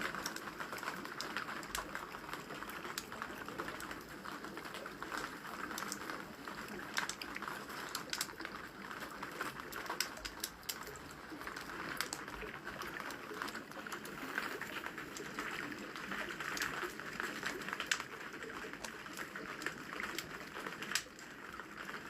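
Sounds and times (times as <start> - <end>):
rain falling: 0.0 - 22.0
wood fire crackling and popping: 0.0 - 22.0.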